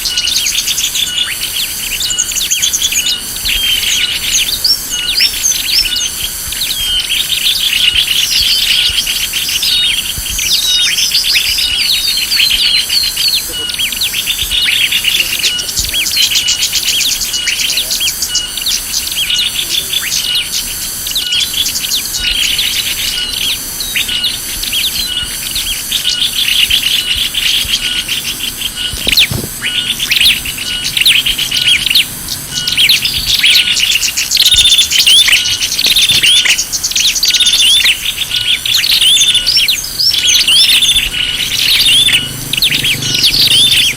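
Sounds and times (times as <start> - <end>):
faint even pulsing: 0.0 - 43.9
small birds chirping and twittering: 0.0 - 43.9.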